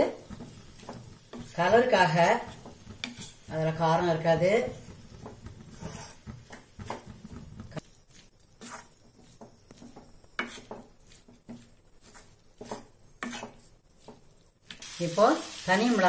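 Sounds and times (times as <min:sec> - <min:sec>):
wooden spatula scraping in pan: 0:00.0 - 0:16.0
spatula knocking pan: 0:00.1 - 0:07.8, 0:08.6 - 0:14.8.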